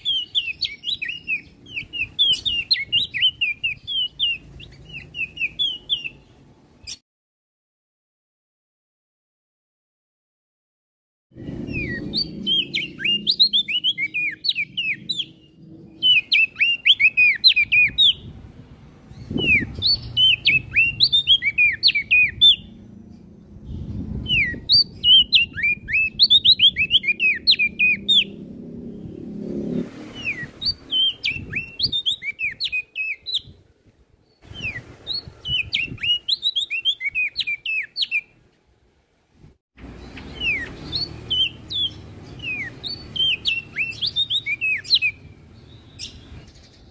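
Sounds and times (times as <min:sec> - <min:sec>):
songbird chirping phrases: 0:00.0 - 0:07.0, 0:11.4 - 0:38.4, 0:39.8 - 0:46.9.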